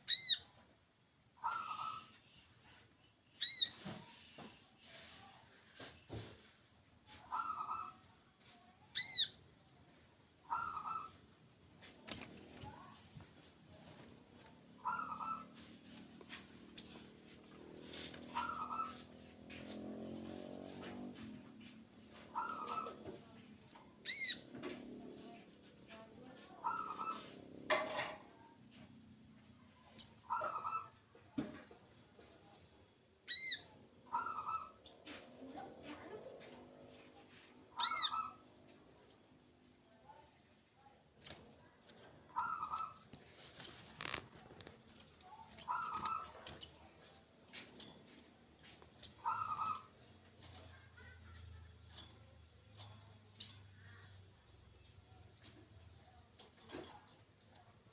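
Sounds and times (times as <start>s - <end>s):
small birds chirping: 0.0s - 0.6s, 1.4s - 4.4s, 7.1s - 9.4s, 11.8s - 21.2s, 22.2s - 27.4s, 28.2s - 38.7s, 39.6s - 57.9s.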